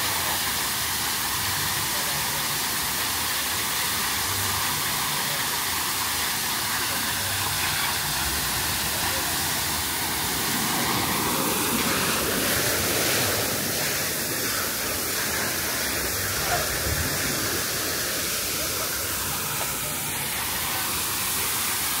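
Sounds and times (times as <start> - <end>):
water rushing down slide: 0.0 - 22.0.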